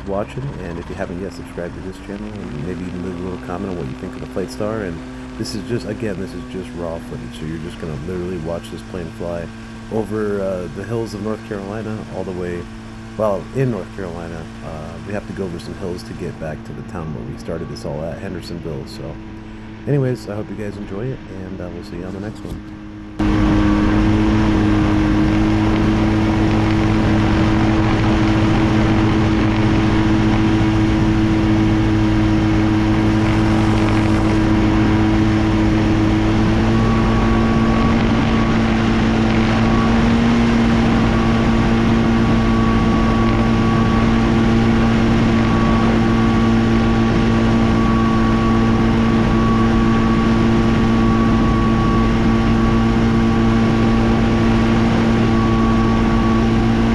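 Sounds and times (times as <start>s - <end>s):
light aircraft engine and propeller: 0.0s - 56.9s.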